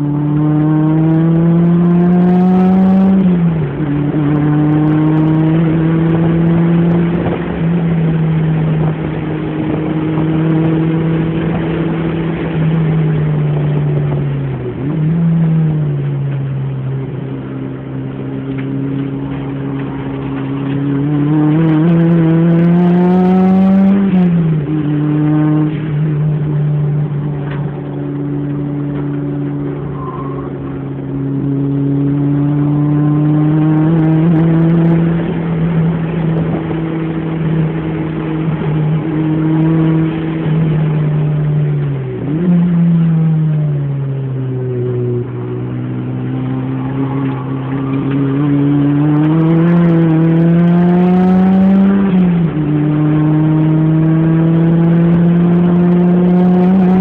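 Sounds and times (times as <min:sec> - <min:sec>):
car engine at speed: 0:00.0 - 0:57.0
wind and road noise: 0:00.0 - 0:57.0.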